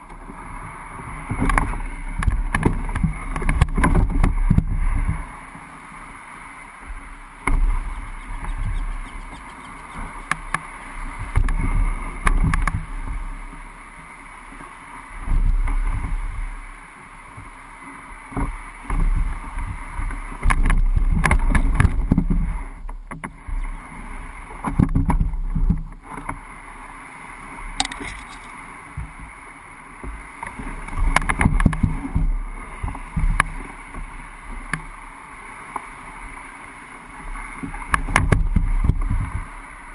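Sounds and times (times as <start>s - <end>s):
canoe hull scraping over ground: 0.0s - 13.8s, 18.2s - 36.5s.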